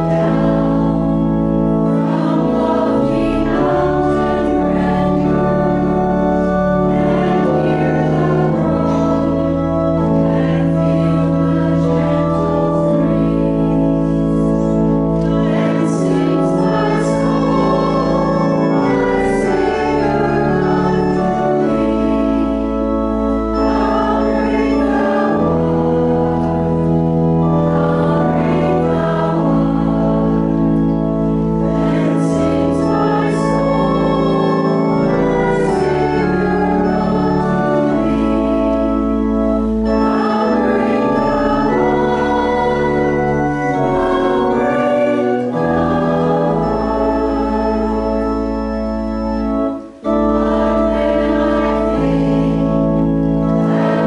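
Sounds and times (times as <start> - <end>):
voices singing: 0.0 - 14.1, 15.2 - 26.8, 27.4 - 30.8, 31.4 - 49.1, 49.8 - 54.0
church organ playing a hymn: 0.0 - 54.0.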